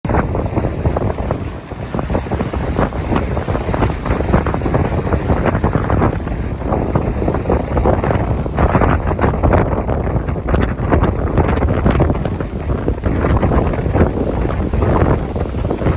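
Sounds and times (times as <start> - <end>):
sea waves washing: 0.0 - 15.9
wind buffeting microphone: 0.0 - 15.9.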